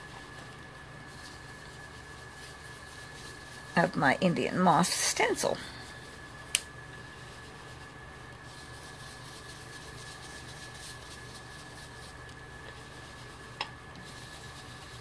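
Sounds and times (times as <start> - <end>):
faint background hum and hiss: 0.0 - 15.0.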